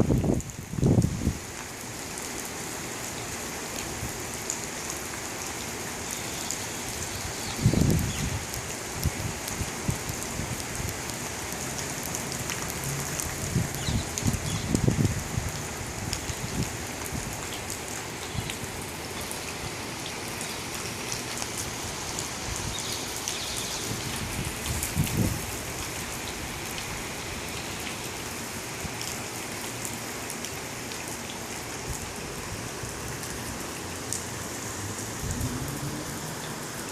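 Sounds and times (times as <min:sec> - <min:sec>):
raindrops ticking on hard surfaces: 0:00.0 - 0:36.9
steady rain hissing: 0:00.0 - 0:36.9.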